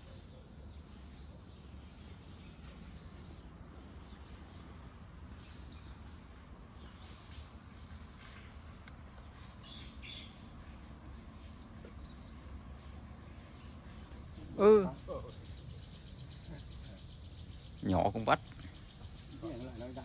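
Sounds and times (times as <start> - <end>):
faint bird chirps: 0.0 - 20.0
low outdoor rumble: 0.0 - 20.0.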